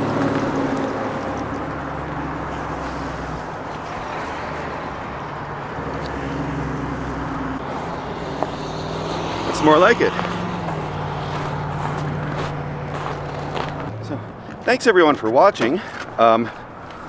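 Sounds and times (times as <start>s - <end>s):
road traffic engine drone: 0.0s - 17.0s.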